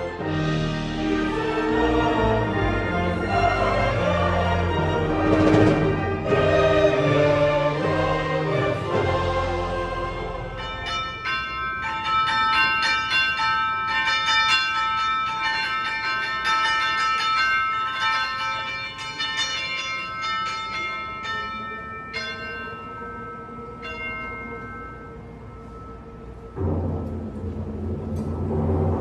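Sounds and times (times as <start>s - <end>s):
bells ringing a rapid peal: 0.0s - 29.0s.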